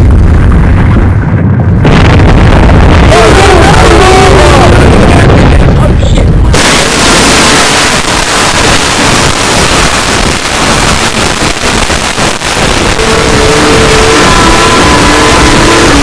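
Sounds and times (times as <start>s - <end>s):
loud crackling roar: 0.0s - 16.0s
steady held tones: 1.8s - 16.0s.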